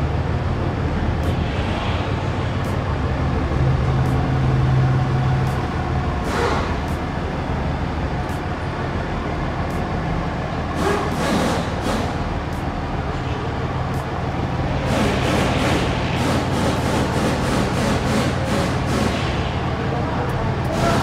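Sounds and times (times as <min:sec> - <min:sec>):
pickup engine idling: 0:02.0 - 0:21.0.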